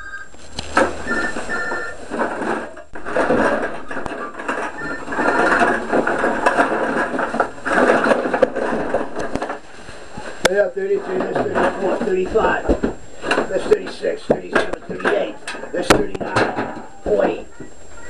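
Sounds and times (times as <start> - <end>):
cans and bottles clattering: 0.7 - 17.4.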